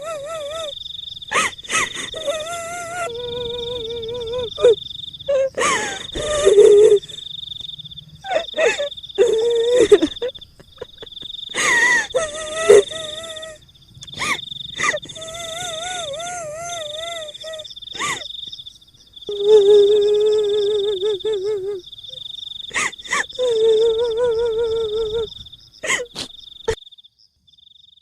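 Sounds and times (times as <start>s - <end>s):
woman wailing and crying: 0.0s - 0.7s, 1.3s - 7.2s, 8.3s - 18.3s, 19.3s - 21.8s, 22.7s - 26.3s
high insect trill: 0.0s - 28.0s.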